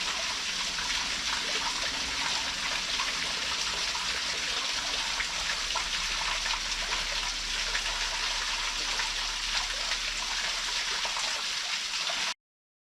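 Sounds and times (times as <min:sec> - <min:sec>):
waterfall pouring: 0:00.0 - 0:12.4.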